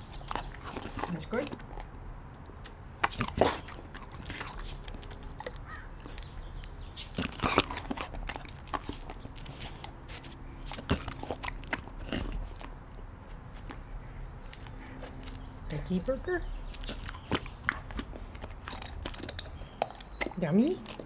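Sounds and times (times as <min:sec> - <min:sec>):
dog snapping and chewing food: 0:00.0 - 0:13.8, 0:16.7 - 0:21.0.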